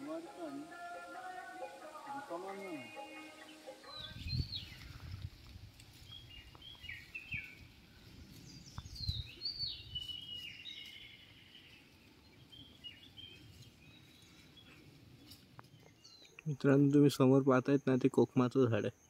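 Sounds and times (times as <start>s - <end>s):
birds chirping: 0.0s - 5.2s, 5.9s - 17.4s.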